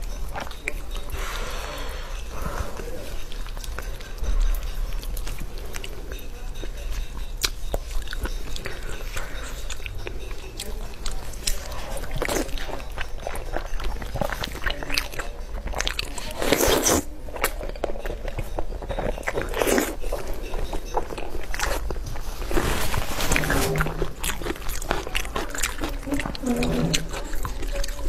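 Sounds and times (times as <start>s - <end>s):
close chewing with mouth smacks: 2.1s - 28.0s.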